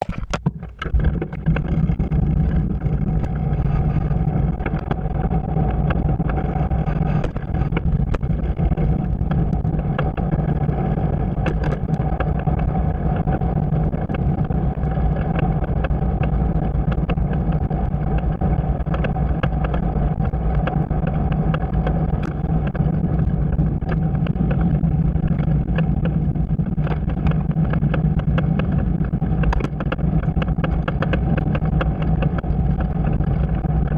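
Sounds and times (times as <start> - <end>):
bike running hum: 0.0 - 33.9
small clicks: 0.0 - 33.9.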